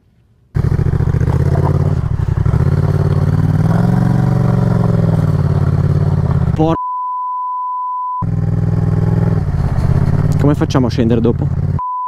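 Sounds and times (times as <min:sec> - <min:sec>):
motorcycle engine on dirt trail: 0:00.6 - 0:06.8, 0:08.2 - 0:11.8.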